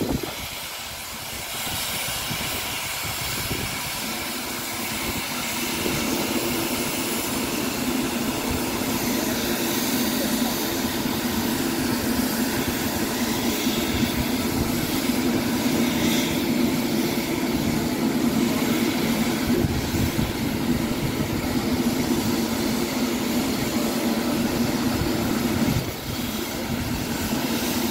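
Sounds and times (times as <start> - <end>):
steam locomotive rumbling: 0.0 - 27.9.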